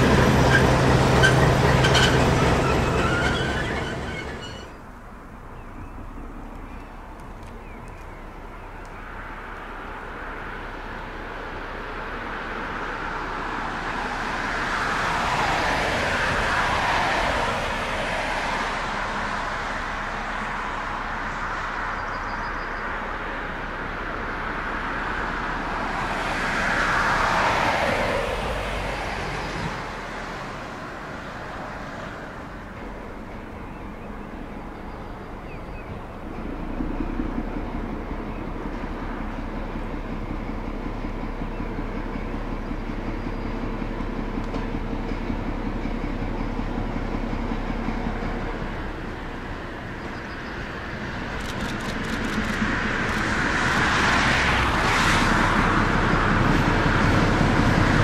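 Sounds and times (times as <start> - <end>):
road vehicles passing: 0.0 - 58.0.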